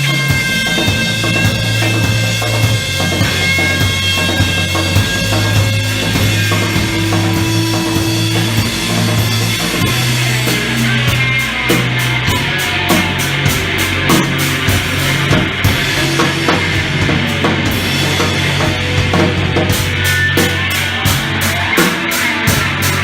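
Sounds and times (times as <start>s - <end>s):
drum kit with cymbal hits: 0.0s - 23.0s
low bass notes: 0.0s - 23.0s
rock band playing: 0.0s - 23.0s.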